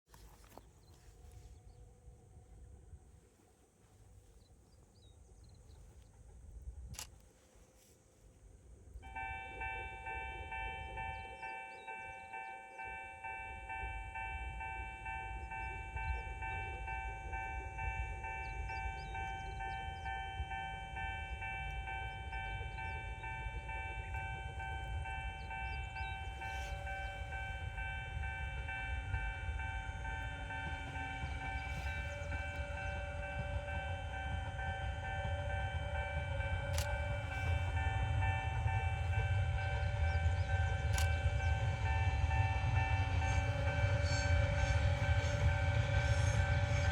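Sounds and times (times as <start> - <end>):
train rumbling: 0.1 - 46.9
level-crossing warning bell: 8.9 - 46.9.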